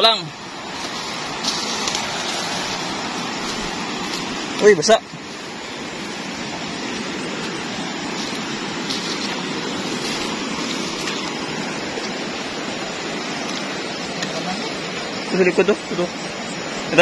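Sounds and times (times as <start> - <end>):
grass and reeds rustling: 0.0 - 17.0
river water rushing: 0.0 - 17.0.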